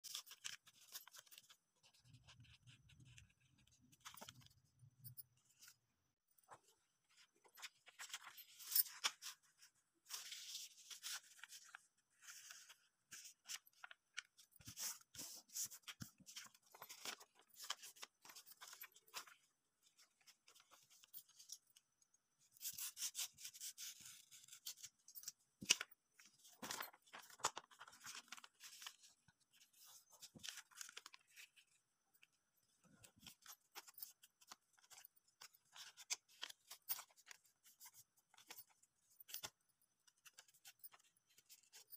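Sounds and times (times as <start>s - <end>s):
paper rustling and crinkling: 0.0s - 4.6s, 6.5s - 21.6s, 22.8s - 31.8s, 33.0s - 41.9s.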